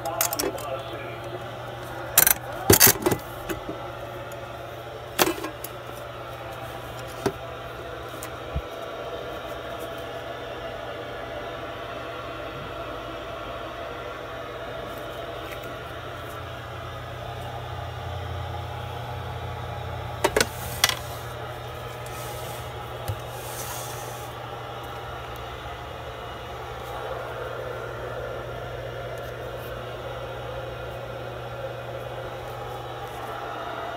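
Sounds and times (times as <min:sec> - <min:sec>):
cooling fans whirring: 0:00.0 - 0:33.9.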